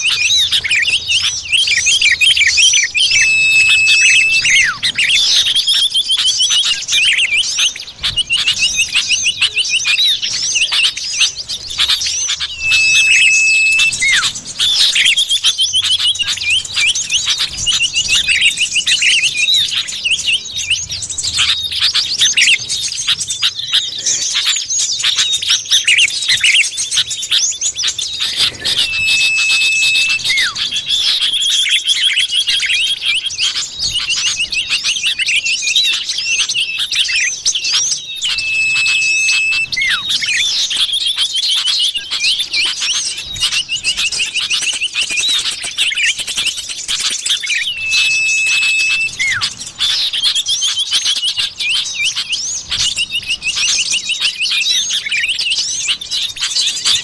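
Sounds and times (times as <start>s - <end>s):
bird chattering and trilling calls: 0.0s - 57.0s
long level bird whistle: 0.0s - 57.0s.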